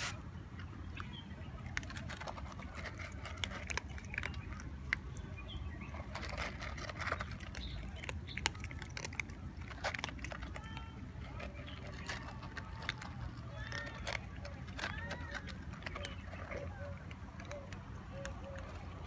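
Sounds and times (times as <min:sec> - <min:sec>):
cats crunching dry kibble: 0:00.0 - 0:19.0.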